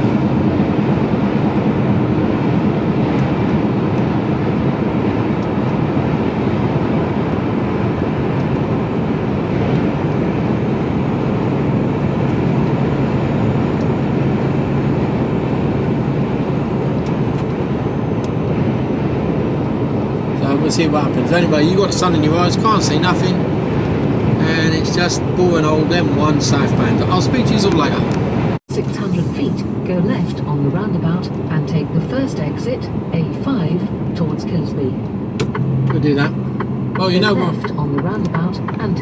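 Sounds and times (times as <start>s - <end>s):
diesel engine drone: 0.0s - 39.0s
road and tyre noise: 0.0s - 39.0s.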